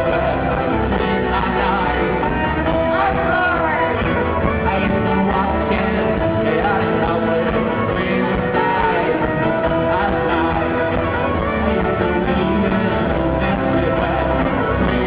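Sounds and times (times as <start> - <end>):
folk-rock band playing live: 0.0 - 15.0
person singing: 0.0 - 15.0.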